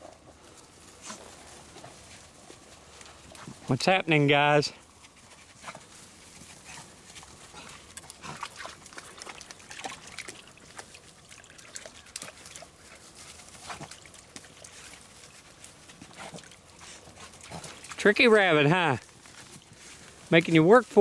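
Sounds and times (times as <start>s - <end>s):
dogs snuffling: 0.0s - 3.7s, 4.6s - 18.5s
rustling through dry leaves: 0.0s - 21.0s
twigs crackling: 0.0s - 21.0s.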